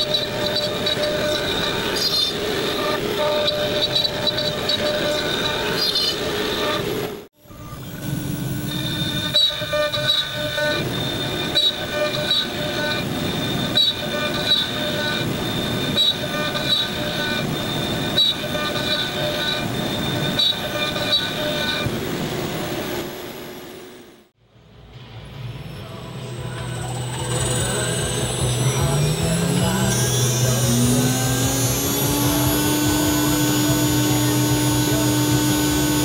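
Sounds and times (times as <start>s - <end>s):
router spindle whining: 0.0s - 23.6s, 25.8s - 36.0s
shop vacuum running: 0.0s - 24.0s, 25.2s - 36.0s.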